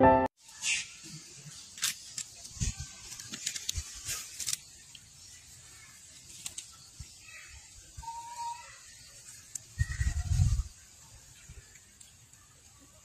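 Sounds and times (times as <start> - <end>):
rustling in dry leaves: 0.4 - 13.0.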